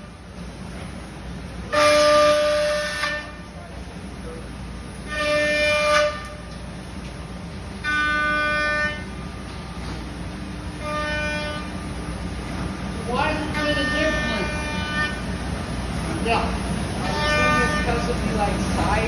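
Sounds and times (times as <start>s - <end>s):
cnc router running: 1.1s - 19.0s.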